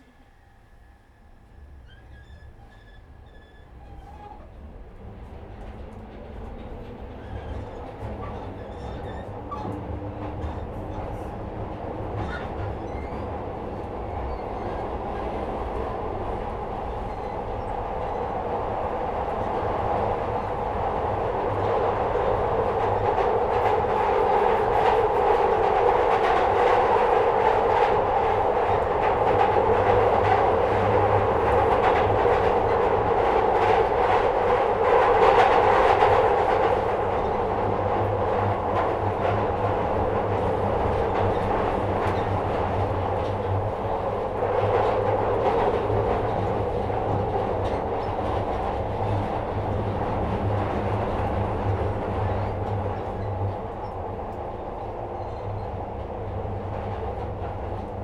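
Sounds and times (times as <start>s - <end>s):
subway train running noise: 0.0s - 58.0s.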